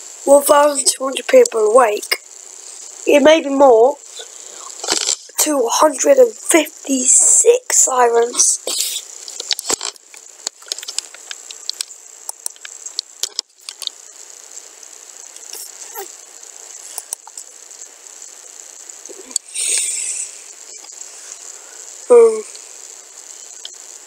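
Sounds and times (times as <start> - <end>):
faint high whine: 0.0 - 24.0
microphone hiss: 0.0 - 24.0.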